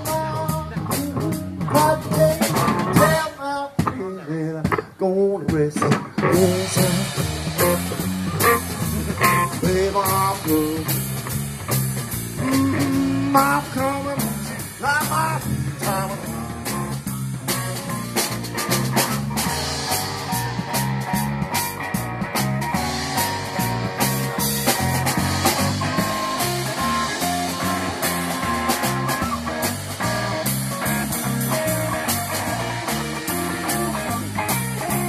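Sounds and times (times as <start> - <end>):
drum kit: 0.0 - 35.0
electric bass guitar: 0.0 - 35.0
electric guitar: 0.0 - 35.0.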